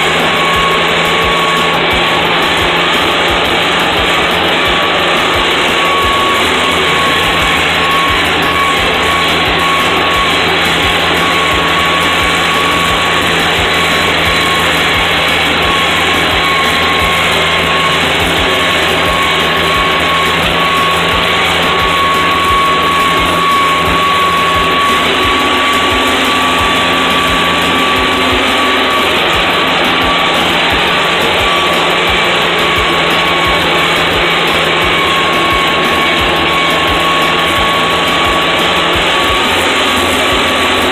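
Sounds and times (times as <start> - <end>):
steady high whine: 0.0 - 40.9
tractor engine under load: 0.0 - 40.9.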